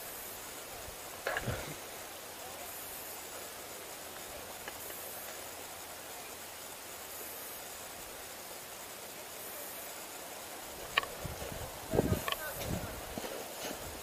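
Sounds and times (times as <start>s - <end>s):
steady hiss and rustle: 0.0s - 14.0s.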